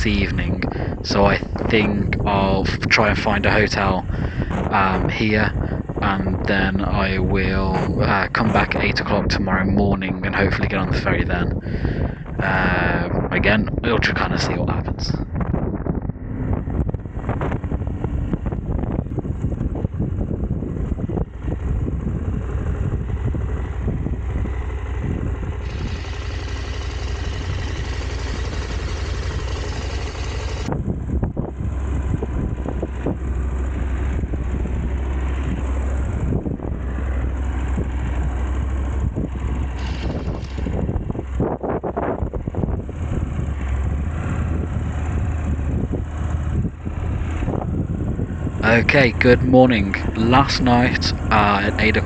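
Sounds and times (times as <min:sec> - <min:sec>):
motorcycle engine droning: 0:00.0 - 0:52.0
wind on microphone: 0:00.0 - 0:52.0.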